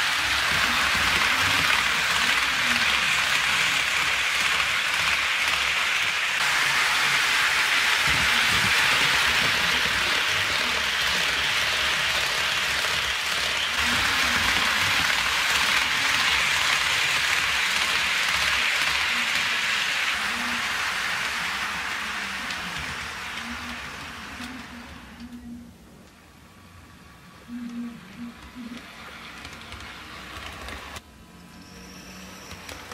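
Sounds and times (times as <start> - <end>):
model train wheels rattling on rails: 0.0 - 25.4, 28.3 - 31.0.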